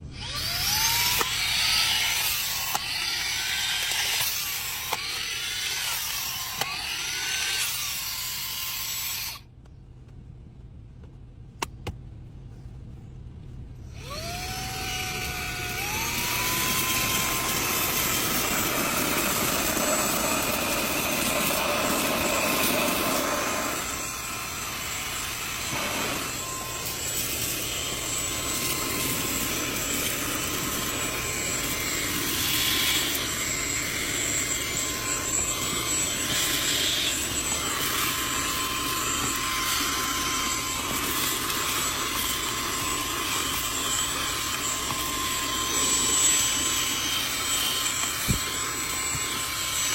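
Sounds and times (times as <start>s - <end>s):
handheld vacuum cleaner whine: 0.0s - 9.5s, 13.9s - 49.9s.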